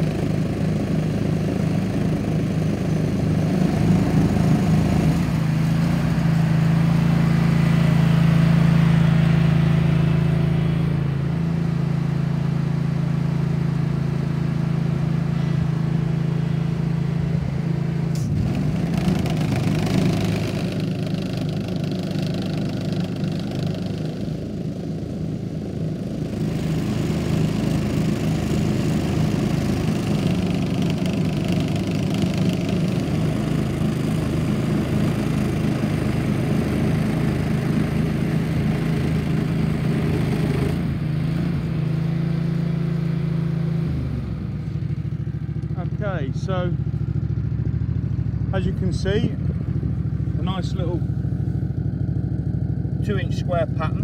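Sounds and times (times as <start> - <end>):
aerator engine running: 0.0 - 54.0.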